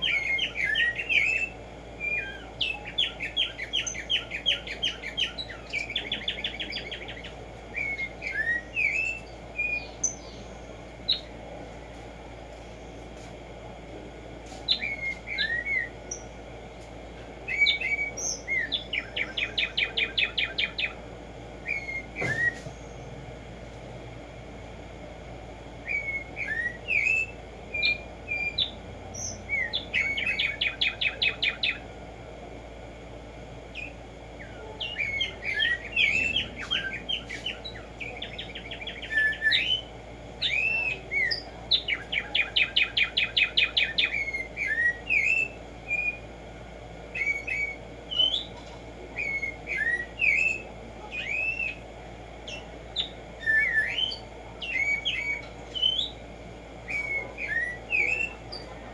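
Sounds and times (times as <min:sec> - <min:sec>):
sparrow singing: 0:00.0 - 0:11.4, 0:14.4 - 0:16.5, 0:17.4 - 0:23.8, 0:25.8 - 0:32.0, 0:33.6 - 0:46.4, 0:47.0 - 0:58.9
low background noise: 0:00.0 - 0:58.9.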